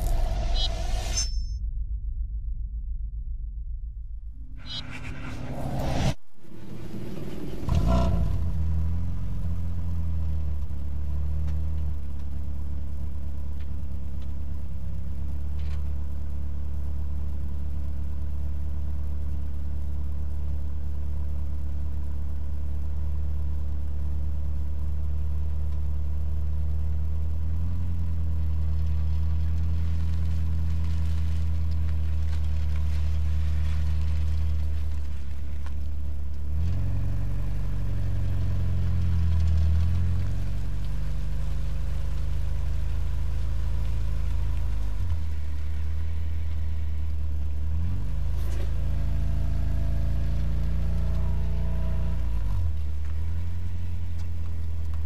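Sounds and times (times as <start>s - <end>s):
car pulling away: 5.5s - 55.0s
car exhaust idling: 6.5s - 55.0s.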